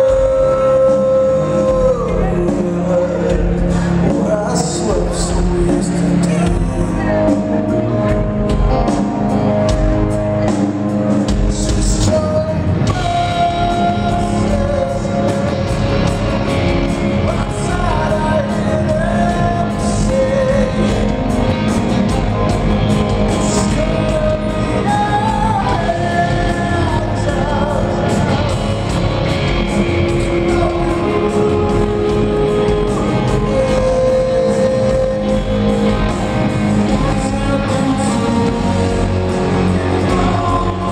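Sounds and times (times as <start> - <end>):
man singing: 0.0 - 7.9, 11.3 - 40.9
drums: 0.0 - 40.9
electric guitars: 0.0 - 40.9.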